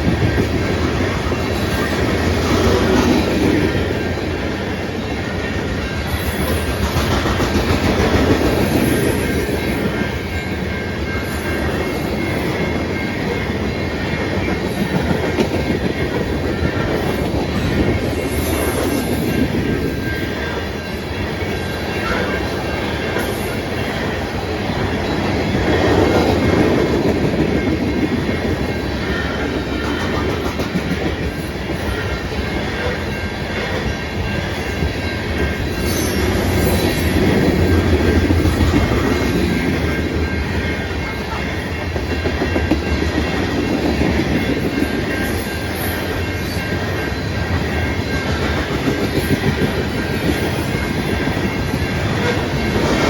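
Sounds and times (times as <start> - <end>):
clickety-clack over rail joints: 0.0 - 53.0
freight train wheels rumbling: 0.0 - 53.0.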